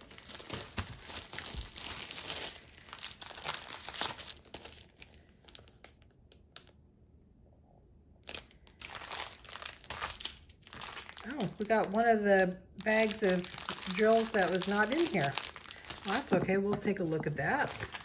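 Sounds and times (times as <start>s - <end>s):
plastic wrapping crinkling and tearing: 0.0s - 6.7s, 8.2s - 16.4s, 17.0s - 18.0s.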